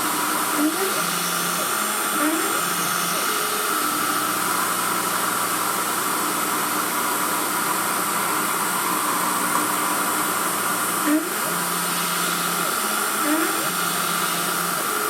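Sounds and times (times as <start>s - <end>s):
milling machine drilling aluminium: 0.0s - 15.0s.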